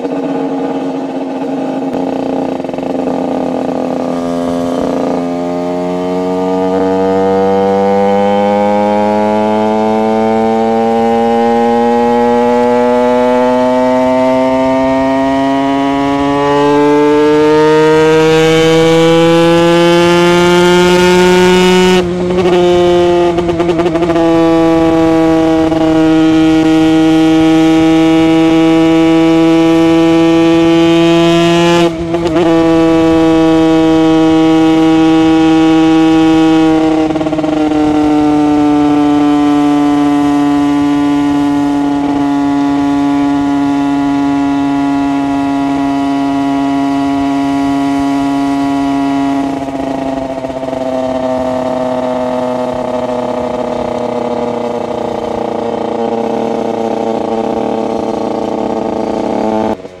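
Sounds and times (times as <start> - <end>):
two-stroke motorcycle engine revving: 0.0 - 60.0.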